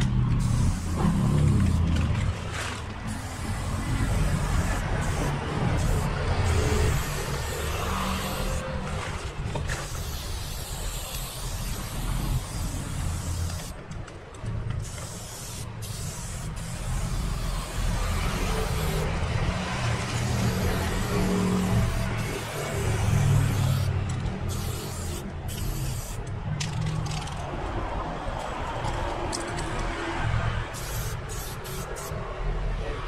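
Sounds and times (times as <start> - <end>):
spray paint can hissing: 0.0 - 8.9, 9.8 - 13.9, 14.8 - 27.4, 30.7 - 32.2.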